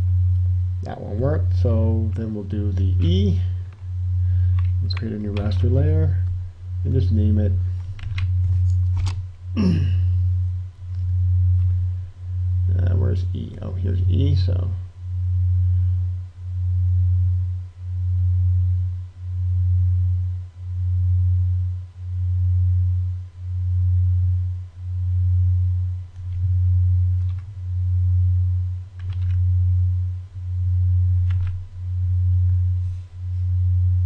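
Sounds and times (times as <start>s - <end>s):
loud low hum: 0.0s - 34.0s.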